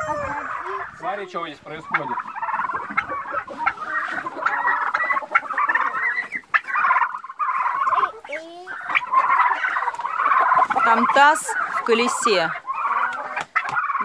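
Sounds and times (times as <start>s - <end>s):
chicken clucks: 0.0s - 14.0s
turkeys peeping and trilling: 0.0s - 14.0s.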